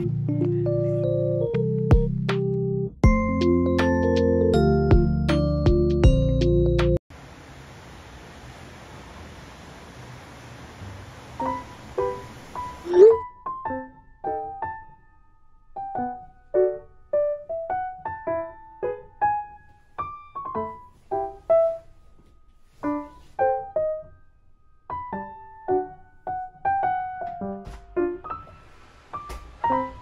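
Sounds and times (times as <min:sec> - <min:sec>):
slow gentle piano melody: 0:00.0 - 0:07.0, 0:11.4 - 0:30.0.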